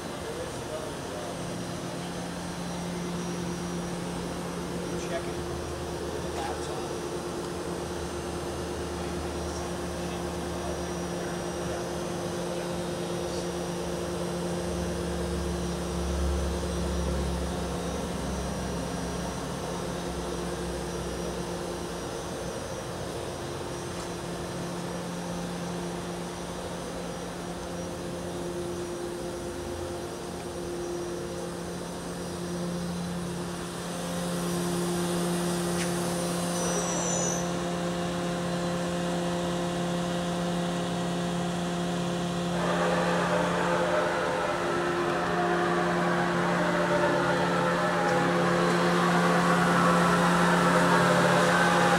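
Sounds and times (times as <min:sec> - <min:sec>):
boring mill humming: 0:00.0 - 0:51.9.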